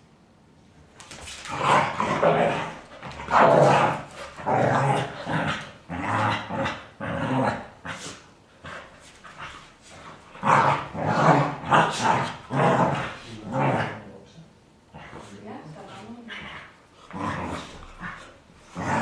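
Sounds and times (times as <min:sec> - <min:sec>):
dogs play-growling and barking: 0:01.0 - 0:14.1, 0:14.8 - 0:19.0.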